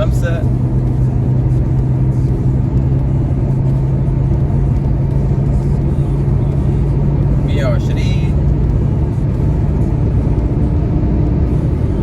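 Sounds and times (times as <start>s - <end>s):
car engine low drone: 0.0s - 12.0s
road and wind rumble: 0.0s - 12.0s.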